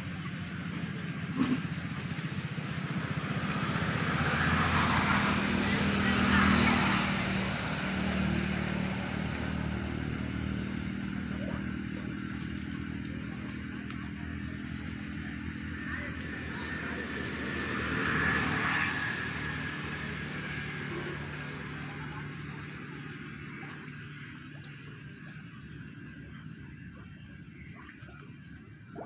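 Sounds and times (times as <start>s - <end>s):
another engine humming: 0.0s - 29.0s
vehicle engine humming: 0.0s - 29.0s.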